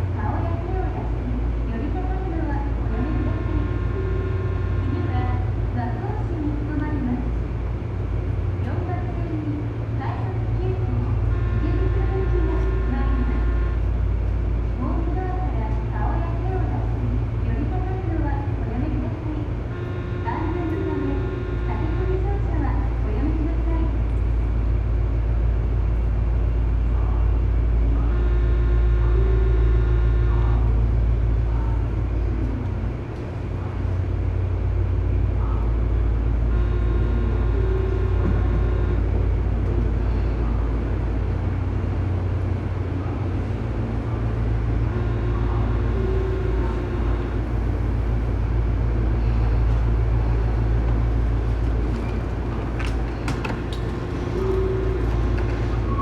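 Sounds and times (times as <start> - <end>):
electric train equipment humming: 0.0 - 56.0.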